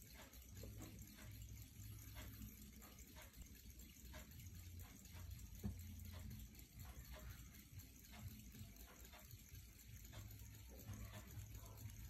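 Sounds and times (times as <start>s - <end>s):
low background hum: 0.0s - 12.0s
pocket watch ticking: 0.0s - 12.0s.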